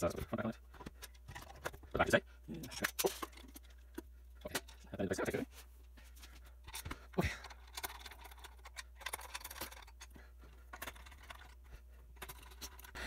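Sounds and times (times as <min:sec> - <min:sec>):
plastic parts clicking and tapping: 0:00.0 - 0:05.4, 0:06.6 - 0:13.0.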